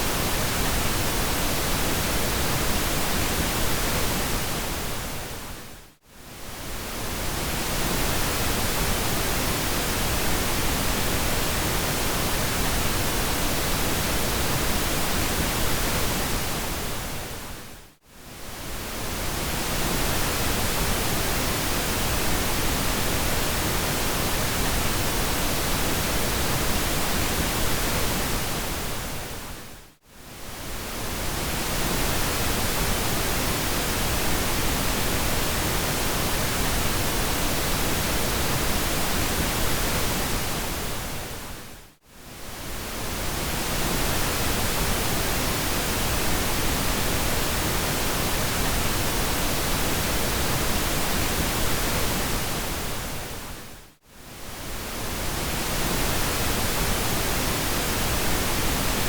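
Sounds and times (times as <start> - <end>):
pink noise hiss: 6.3 - 59.0.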